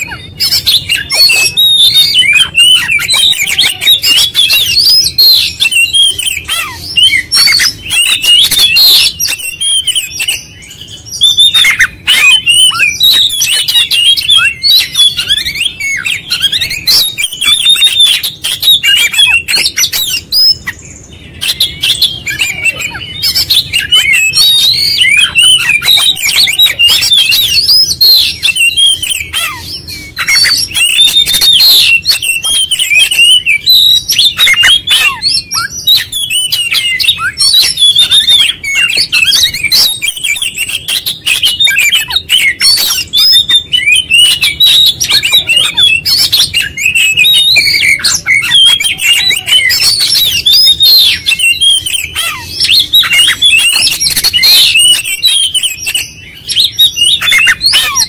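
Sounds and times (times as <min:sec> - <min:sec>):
bird singing whistles and chirps: 0:00.0 - 0:58.0.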